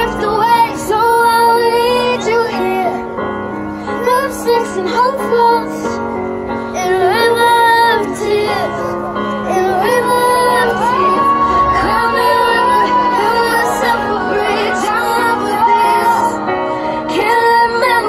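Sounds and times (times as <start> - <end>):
girl singing: 0.0 - 3.0, 3.9 - 6.0, 6.8 - 18.0.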